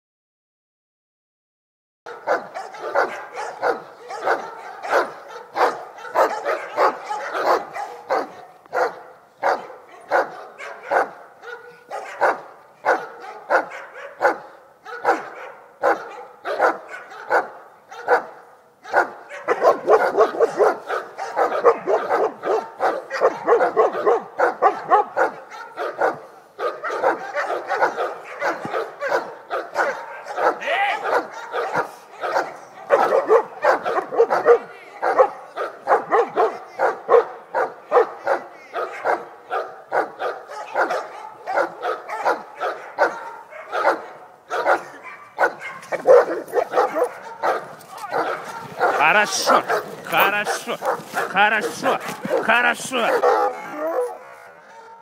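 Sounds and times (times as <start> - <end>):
dogs barking: 2.1 - 55.0.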